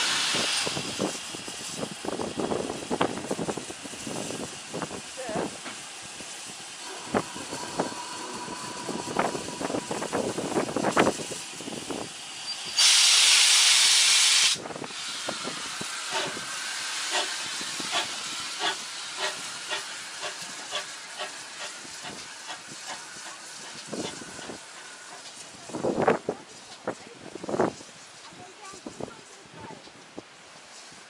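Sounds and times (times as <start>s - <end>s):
loud hiss of steam: 0.0s - 31.0s
steam locomotive exhaust beats: 0.0s - 31.0s.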